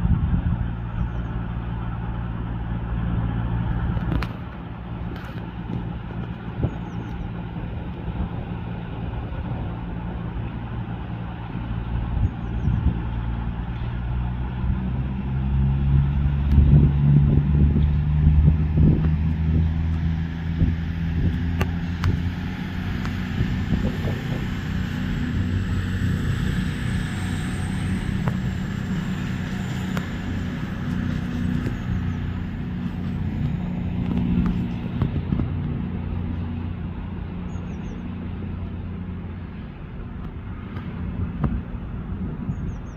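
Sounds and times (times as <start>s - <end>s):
train low hum: 0.0s - 42.9s.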